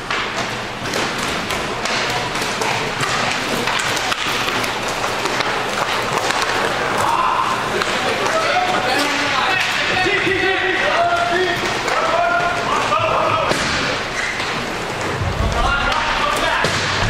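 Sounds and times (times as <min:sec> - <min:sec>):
hockey sticks and puck clacking: 0:00.0 - 0:17.0.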